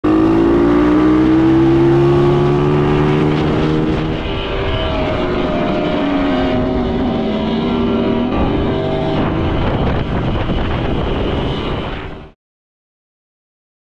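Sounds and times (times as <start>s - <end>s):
electric go-kart motor whining: 0.0s - 12.4s
quad bike engine: 0.0s - 12.4s
wind noise: 0.3s - 12.4s.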